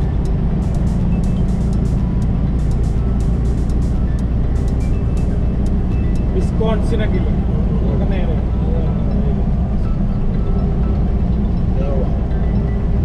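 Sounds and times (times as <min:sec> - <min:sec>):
road noise: 0:00.0 - 0:13.0
truck diesel engine drone: 0:00.0 - 0:13.0.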